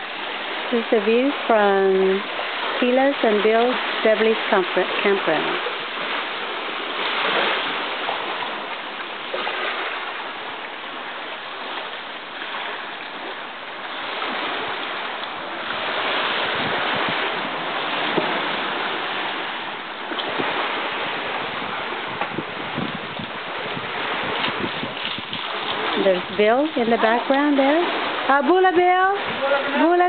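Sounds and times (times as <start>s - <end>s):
waves lapping on rocky shore: 0.0s - 30.0s.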